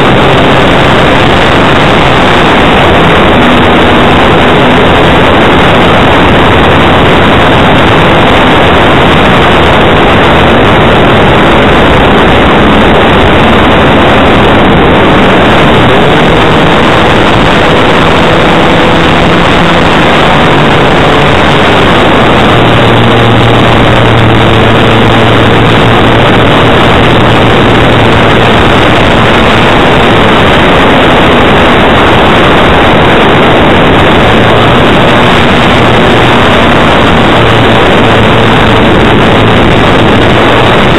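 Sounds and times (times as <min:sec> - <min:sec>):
distorted wind rush on microphone: 0:00.0 - 0:40.9
model plane motor and propeller drone: 0:00.0 - 0:40.9.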